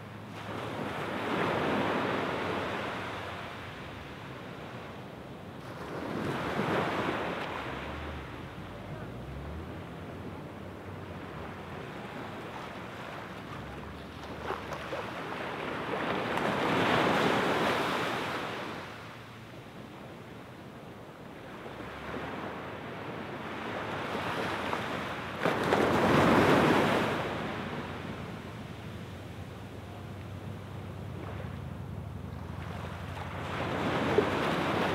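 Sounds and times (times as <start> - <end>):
small waves washing onto beach: 0.0 - 34.9.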